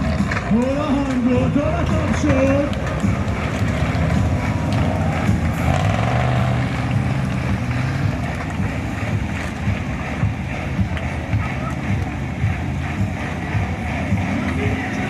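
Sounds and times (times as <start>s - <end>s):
monster truck engines running: 0.0s - 15.0s.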